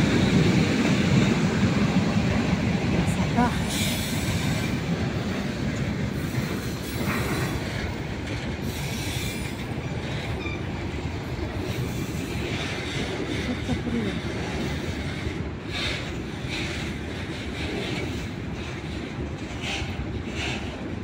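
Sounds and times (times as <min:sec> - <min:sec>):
electric commuter train: 0:00.0 - 0:21.0
freight train wheels rumbling: 0:00.0 - 0:21.0.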